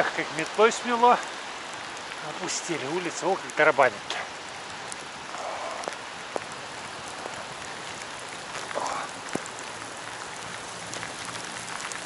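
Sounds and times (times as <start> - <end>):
heavy rain drumming: 0.0 - 12.0
raindrops tapping near microphone: 0.0 - 12.0.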